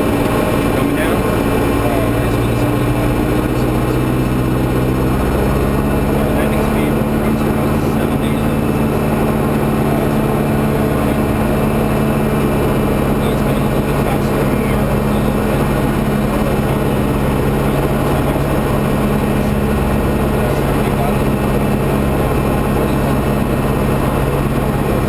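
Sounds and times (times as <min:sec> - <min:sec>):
aircraft engine drone in cockpit: 0:00.0 - 0:25.0.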